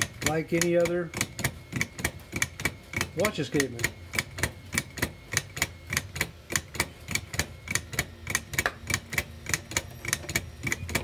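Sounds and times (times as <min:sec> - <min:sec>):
plastic escapement ticking: 0:00.0 - 0:11.0.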